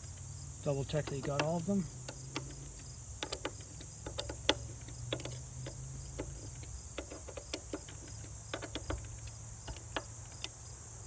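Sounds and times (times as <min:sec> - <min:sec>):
cricket trill: 0:00.0 - 0:11.0
wrench clicking on screws: 0:00.8 - 0:10.6.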